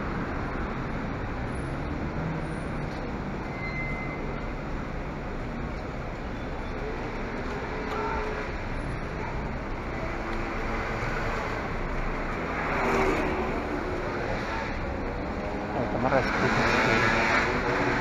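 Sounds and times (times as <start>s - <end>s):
street traffic: 0.0s - 18.0s.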